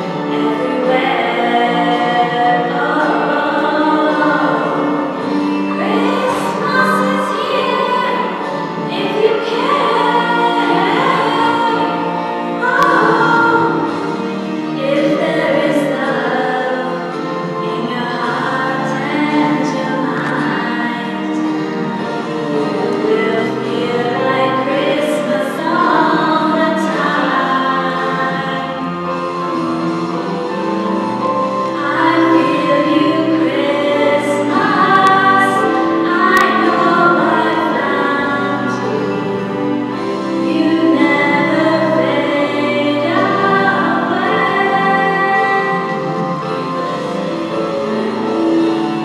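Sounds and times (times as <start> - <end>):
women's choir singing: 0.0 - 49.0.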